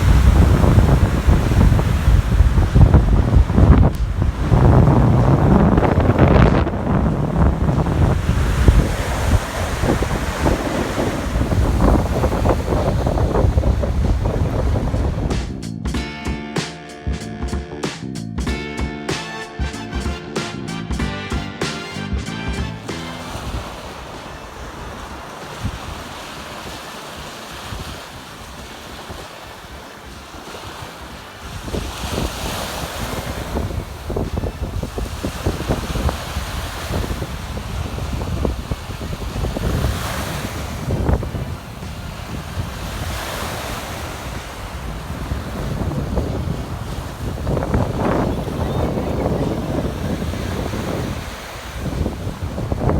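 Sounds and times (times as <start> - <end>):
surf breaking on beach: 0.0 - 15.6, 21.6 - 52.9
wind buffeting microphone: 0.0 - 16.0, 23.2 - 52.9.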